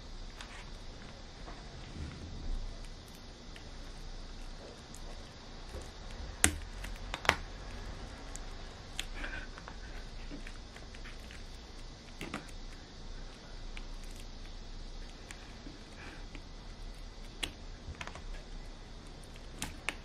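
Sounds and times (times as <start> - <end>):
background hiss and hum: 0.0 - 20.0
handling ticks: 2.7 - 20.0.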